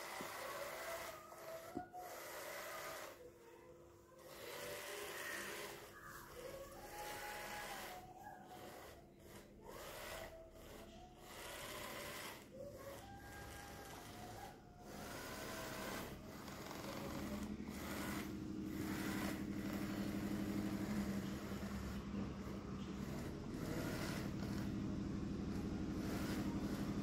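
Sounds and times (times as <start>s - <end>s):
small gear motors whirring: 0.0s - 27.0s.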